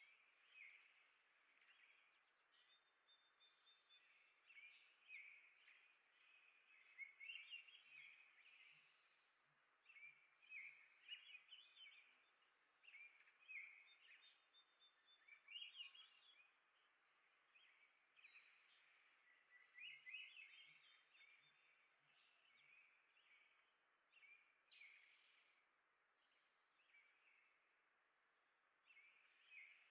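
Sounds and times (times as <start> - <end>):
warbled bird song phrase: 0.0 - 9.1, 9.8 - 25.6
songbirds chirping: 0.0 - 29.9.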